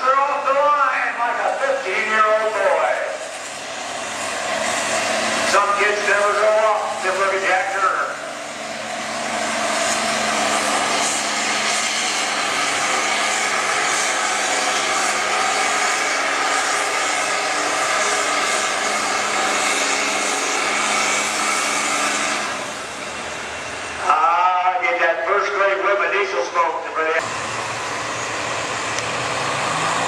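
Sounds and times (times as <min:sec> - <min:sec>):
diesel engine at full throttle: 0:00.0 - 0:30.0.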